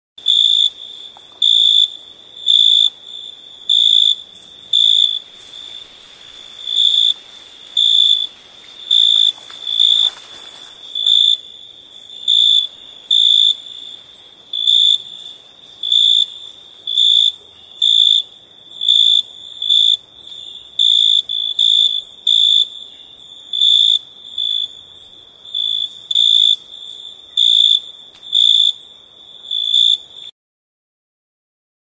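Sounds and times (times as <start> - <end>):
cricket chirping: 0.2 - 30.3.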